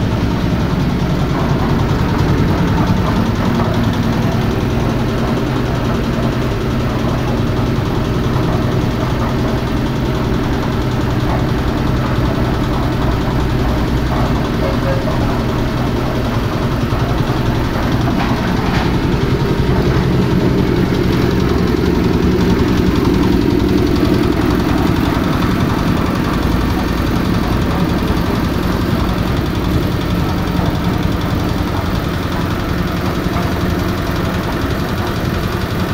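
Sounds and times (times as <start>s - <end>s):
diesel engine knocking: 0.0s - 35.9s.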